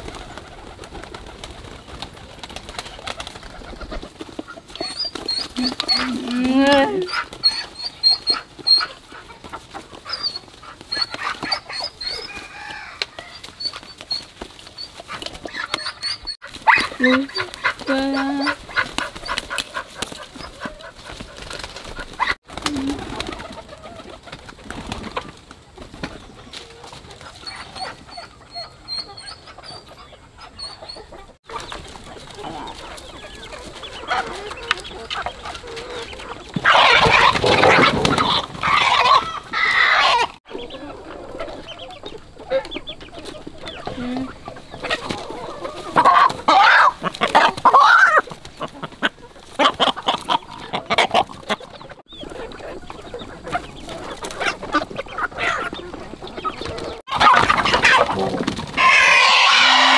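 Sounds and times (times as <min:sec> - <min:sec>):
chickens clucking: 0:00.0 - 0:59.9
chicks peeping: 0:00.0 - 0:59.9.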